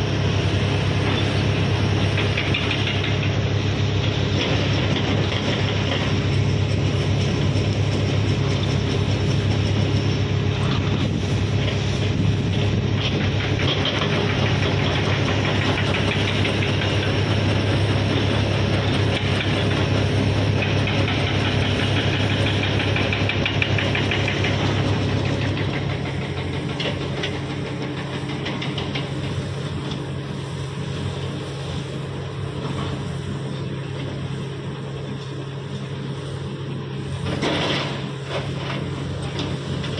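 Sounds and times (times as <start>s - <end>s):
excavator diesel engines rumbling: 0.0s - 39.9s.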